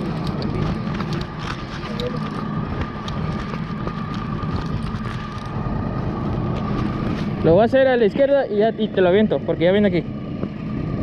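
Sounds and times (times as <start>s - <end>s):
boat motor hum: 0.0s - 11.0s.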